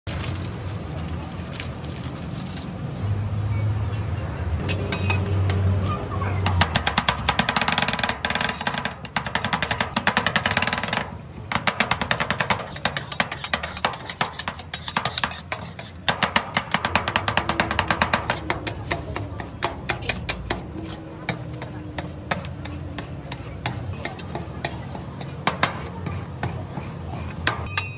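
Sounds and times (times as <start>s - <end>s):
metal spatulas chopping on steel plate: 4.6s - 5.7s, 6.4s - 27.9s.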